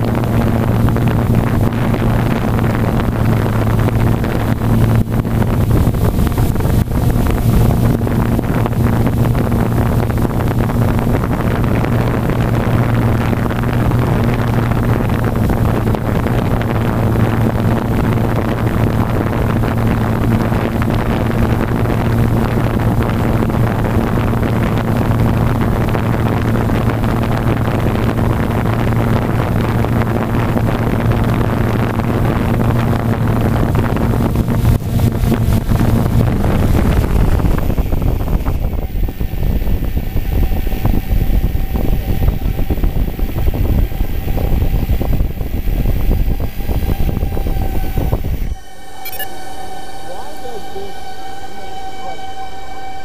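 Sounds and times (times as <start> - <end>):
propeller wash on microphone: 0.0 - 52.1
quadcopter motors humming: 0.0 - 53.0.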